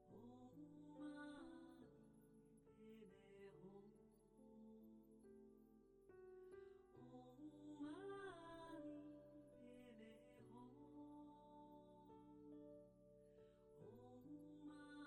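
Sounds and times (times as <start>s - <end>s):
slow ambient music: 0.0s - 15.0s.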